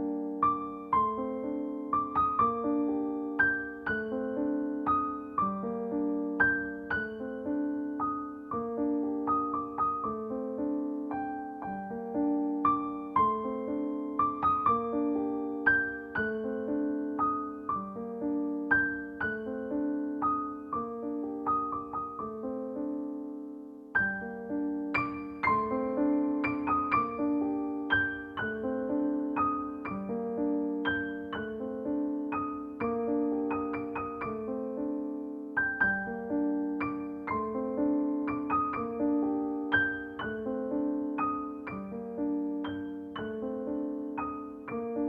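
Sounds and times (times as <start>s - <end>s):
gentle slow piano music: 0.0s - 45.0s.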